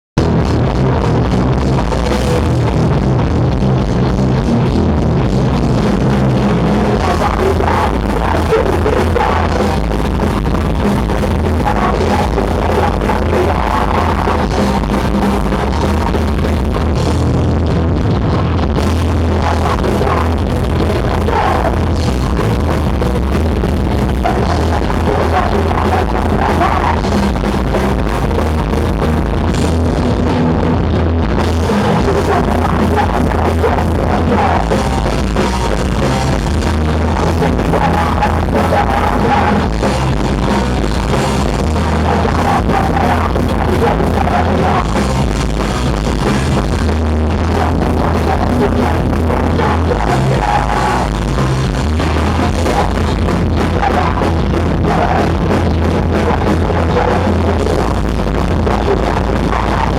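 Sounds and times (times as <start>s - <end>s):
punk rock band playing: 0.2s - 59.9s.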